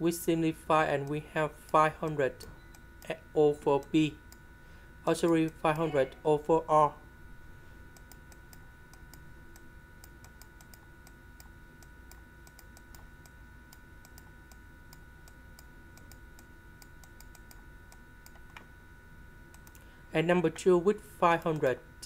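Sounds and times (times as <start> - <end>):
faint steady whine: 0.0 - 22.0.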